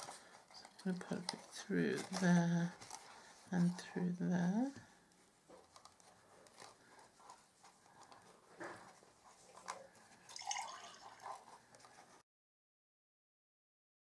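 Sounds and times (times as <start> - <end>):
ribbon rustling through paper: 0.0 - 12.2.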